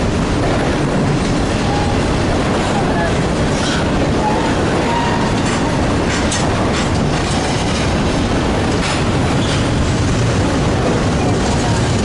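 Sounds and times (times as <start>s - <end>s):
train wheels clacking on rails: 0.0s - 12.0s.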